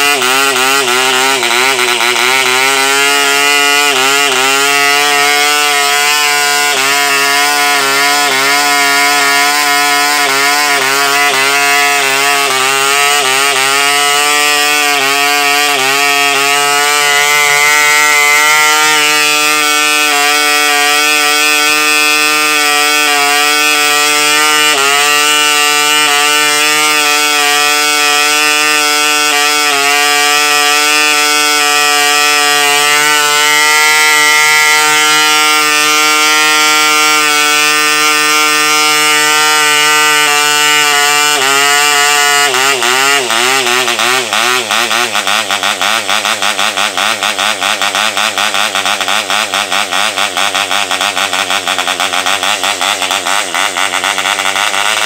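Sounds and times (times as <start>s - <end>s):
model engine buzzing: 0.0s - 55.0s.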